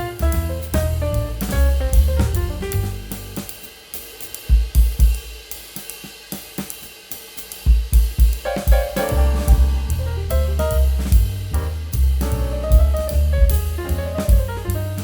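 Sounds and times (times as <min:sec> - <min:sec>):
drum-kit beat: 0:00.0 - 0:15.0.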